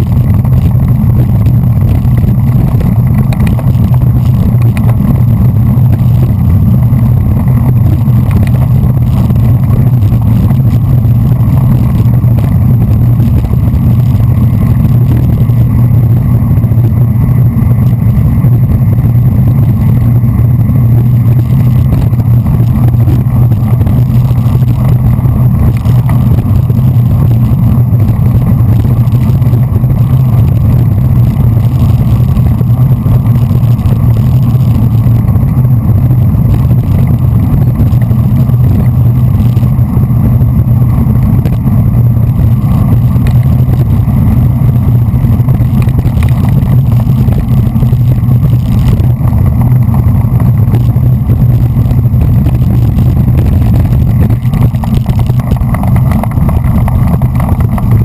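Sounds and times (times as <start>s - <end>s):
road noise: 0.0s - 58.0s
wind rumble on microphone: 0.0s - 58.0s.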